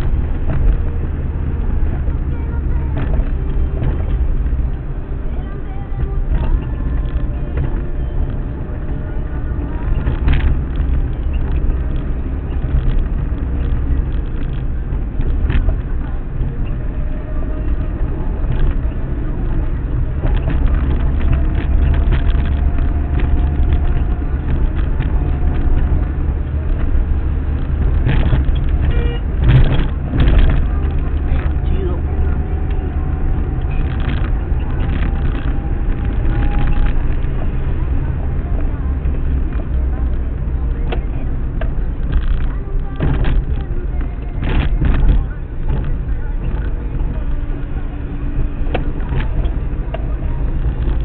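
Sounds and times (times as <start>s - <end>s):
car engine rumble: 0.0s - 51.0s
tyres on road: 0.0s - 51.0s
knocks and rattles: 5.9s - 51.0s.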